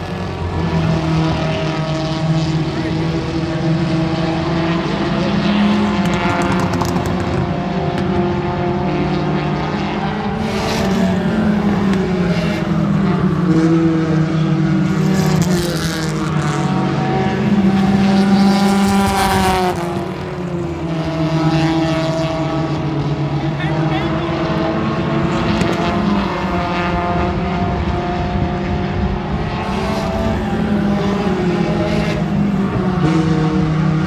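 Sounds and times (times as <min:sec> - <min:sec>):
race car engines revving: 0:00.0 - 0:34.0
race cars passing close: 0:00.0 - 0:34.0.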